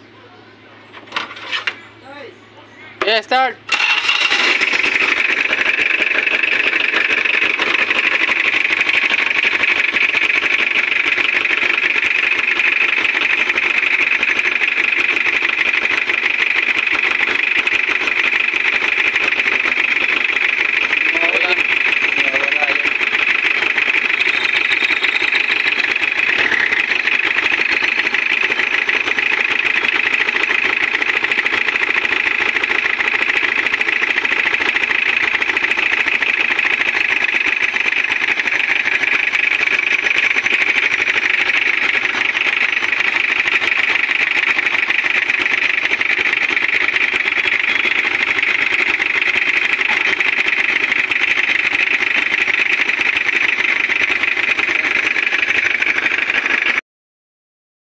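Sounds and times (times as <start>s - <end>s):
diesel engine idling with clatter: 0.0s - 56.8s.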